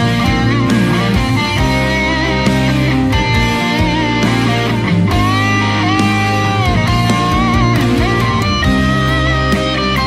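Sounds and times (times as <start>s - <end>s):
guitar music over bass: 0.0s - 10.0s.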